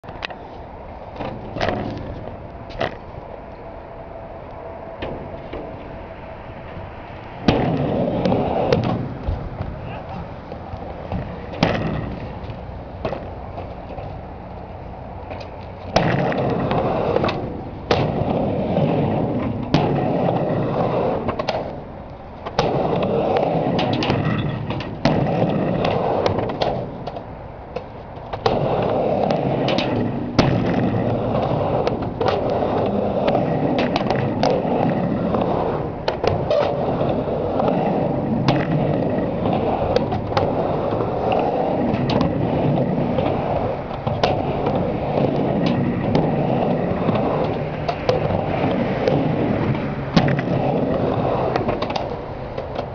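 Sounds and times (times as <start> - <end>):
skateboard wheels rolling: 0.0 - 52.9
skateboard clacking on ramp edge: 1.1 - 3.1, 7.4 - 14.6, 15.2 - 52.9.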